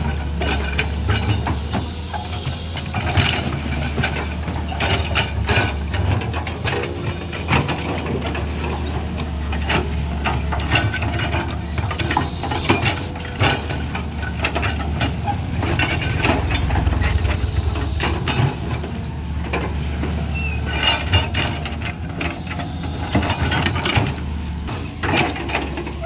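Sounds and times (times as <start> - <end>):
bucket clanks and rattles: 0.0 - 26.0
diesel engine under load: 0.0 - 26.0.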